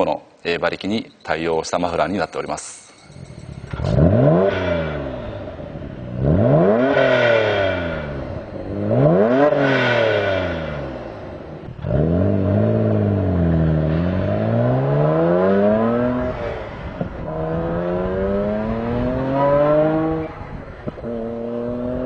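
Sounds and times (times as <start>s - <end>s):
car engine revving: 3.4s - 22.0s.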